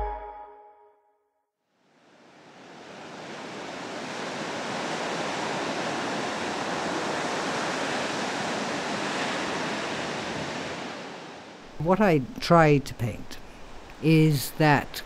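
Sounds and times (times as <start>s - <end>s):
waves rushing on a shore: 1.9s - 15.0s.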